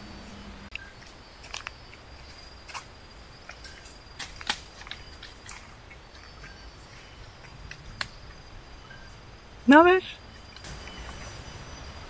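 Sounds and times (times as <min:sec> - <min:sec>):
high insect drone: 0:00.0 - 0:12.0
dry leaves and twigs crackling: 0:00.7 - 0:09.1, 0:10.3 - 0:12.0.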